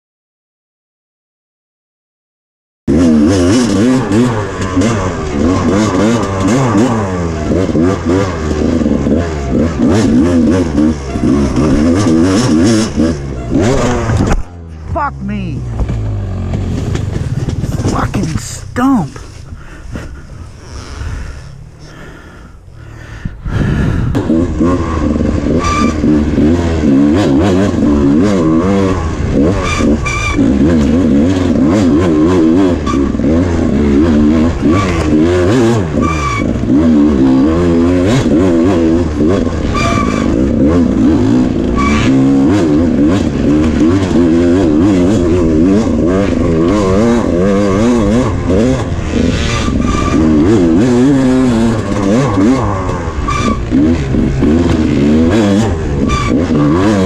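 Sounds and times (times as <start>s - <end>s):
dirt bike engine revving: 2.9s - 57.0s.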